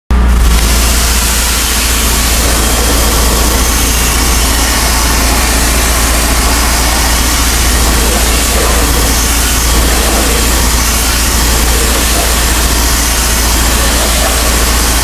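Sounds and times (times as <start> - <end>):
pressure washer engine running: 0.1 - 15.0
water spraying onto fabric: 0.4 - 15.0.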